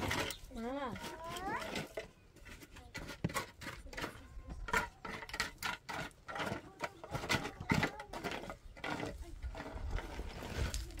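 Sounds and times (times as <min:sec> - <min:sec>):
wooden board scraping earth: 0:00.0 - 0:11.0.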